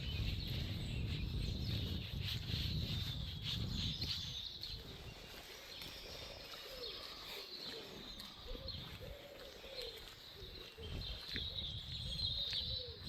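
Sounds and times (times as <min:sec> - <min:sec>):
birds chirping and singing: 0:00.0 - 0:13.0
low arching bird calls: 0:00.0 - 0:13.0.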